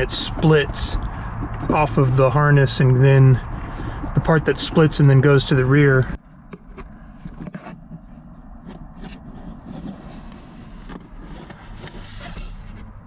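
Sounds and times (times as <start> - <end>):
low background rumble: 0.0 - 13.0
rustling of wiring and trim: 0.0 - 13.0.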